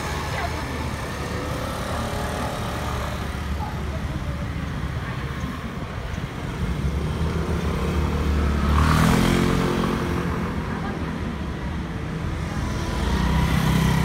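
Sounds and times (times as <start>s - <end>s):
scooter and car engines passing: 0.0s - 14.0s.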